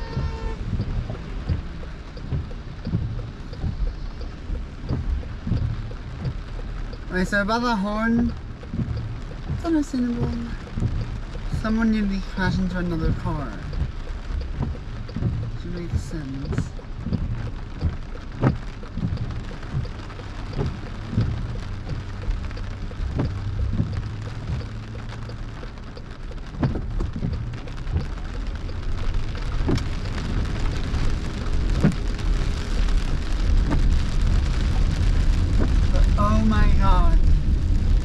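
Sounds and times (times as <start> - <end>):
engine and tyre hum: 0.0 - 38.0
rain hitting car roof: 0.0 - 38.0.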